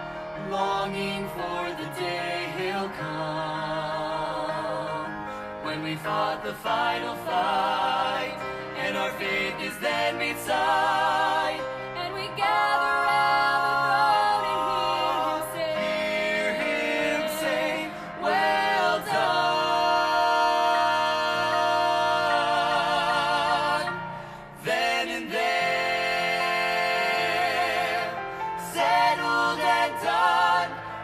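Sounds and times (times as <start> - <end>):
gospel trio singing: 0.0 - 31.0.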